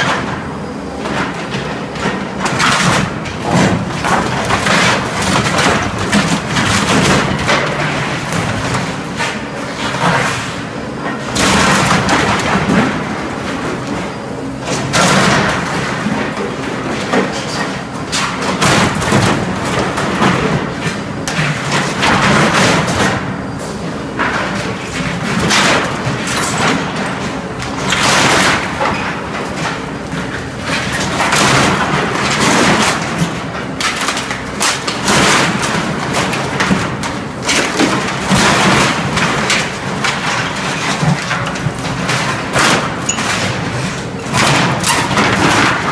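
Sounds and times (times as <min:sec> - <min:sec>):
wood crashing and breaking: 0:01.1 - 0:09.3, 0:11.2 - 0:13.7, 0:14.8 - 0:17.3, 0:18.1 - 0:23.2, 0:24.2 - 0:45.9.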